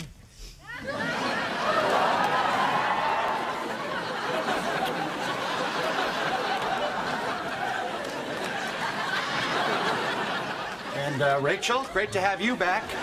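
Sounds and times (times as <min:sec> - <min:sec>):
studio audience laughing: 0:00.7 - 0:13.0.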